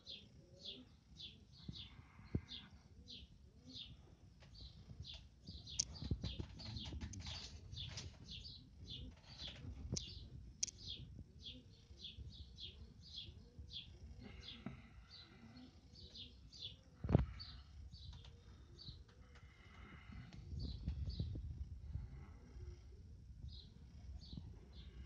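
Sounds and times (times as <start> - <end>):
bird chirping: 0.0 - 21.4.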